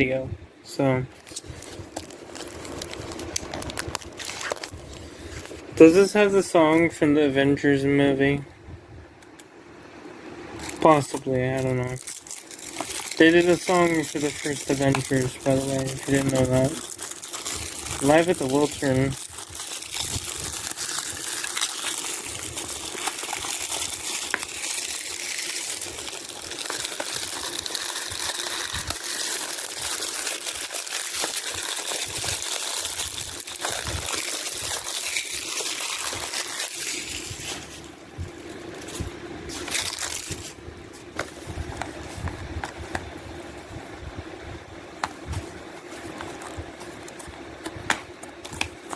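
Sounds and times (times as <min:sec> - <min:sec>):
plastic packaging crinkling: 0:01.1 - 0:07.0, 0:10.6 - 0:43.6, 0:45.0 - 0:48.9.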